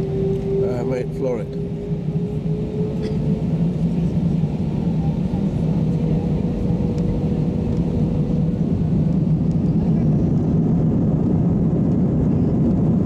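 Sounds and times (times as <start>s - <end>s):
deep rumble of engines and wheels: 0.0s - 13.0s.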